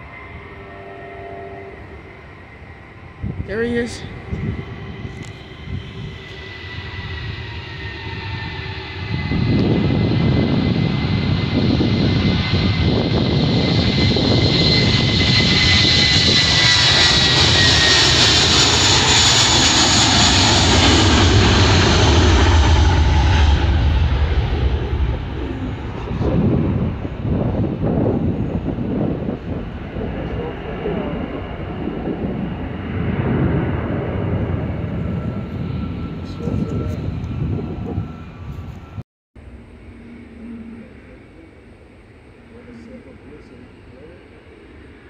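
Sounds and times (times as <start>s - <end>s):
high whine: 0.0s - 45.0s
jet engines at takeoff: 0.0s - 45.0s.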